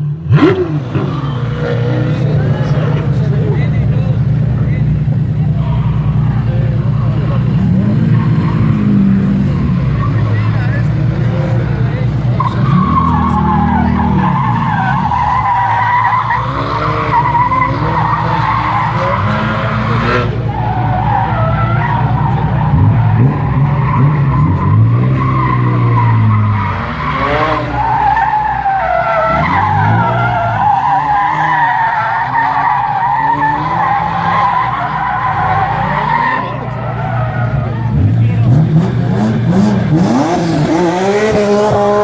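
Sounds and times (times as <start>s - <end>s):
car engine revving: 0.0s - 42.0s
tyres squealing: 5.6s - 42.0s.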